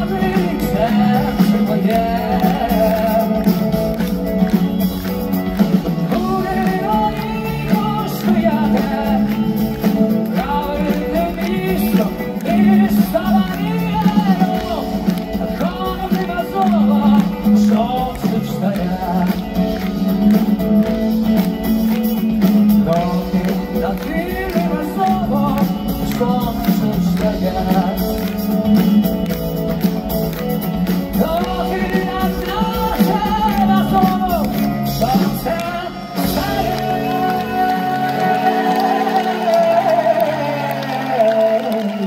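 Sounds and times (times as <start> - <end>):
man singing: 0.0 - 29.4, 30.6 - 42.0
live rock band playing: 0.0 - 42.0.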